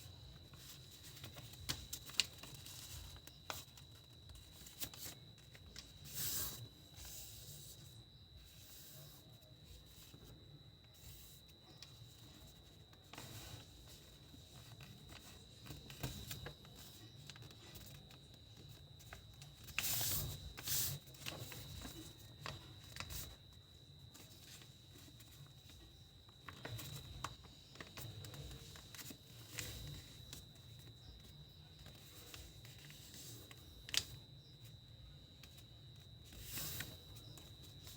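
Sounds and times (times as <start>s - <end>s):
thin steady high whine: 0.0s - 37.9s
paper rustling and crackling: 0.1s - 8.0s, 11.0s - 34.8s, 35.4s - 37.9s.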